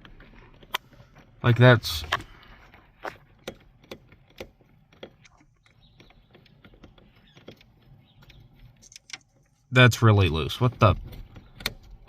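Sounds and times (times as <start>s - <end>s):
loose dashboard part clicking: 0.0s - 12.0s.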